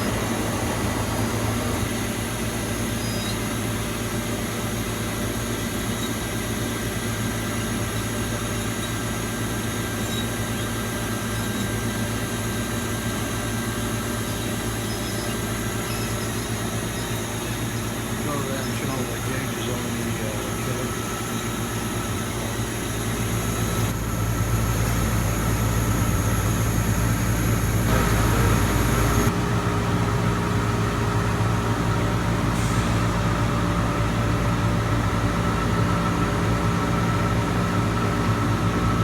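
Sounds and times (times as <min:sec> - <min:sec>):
laser cutter machine hum: 0:00.0 - 0:32.5.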